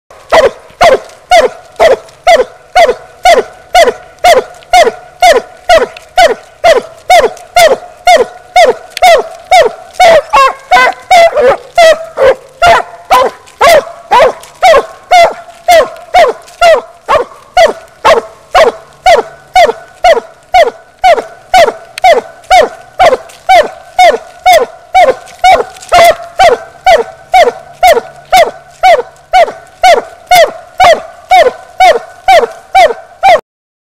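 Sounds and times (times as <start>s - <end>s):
dog barking: 0.3s - 33.4s.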